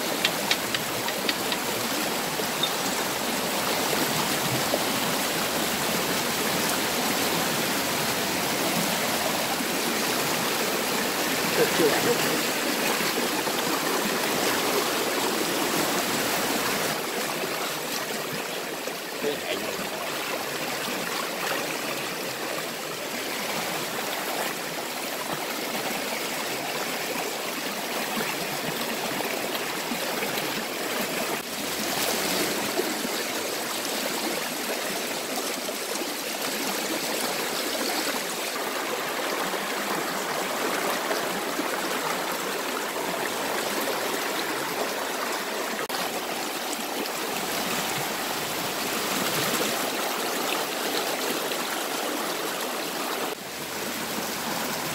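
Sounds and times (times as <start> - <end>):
stream rushing water: 0.0 - 54.9.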